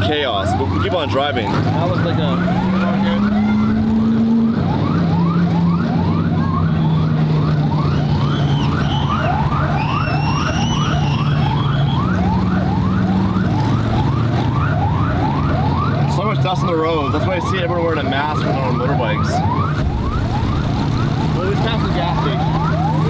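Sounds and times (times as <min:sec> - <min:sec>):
car engine drone: 0:00.0 - 0:23.0
siren whooping: 0:00.0 - 0:23.0.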